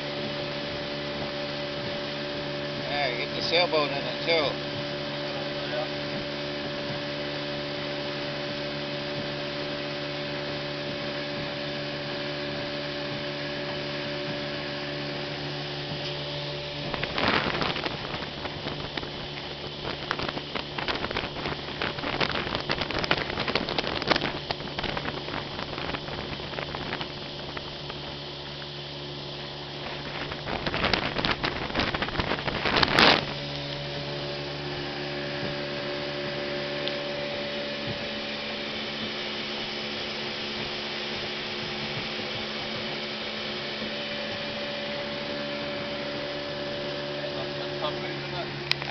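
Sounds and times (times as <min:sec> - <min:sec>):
motorboat engine running: 0:00.0 - 0:48.9
wind buffeting microphone: 0:00.0 - 0:48.9.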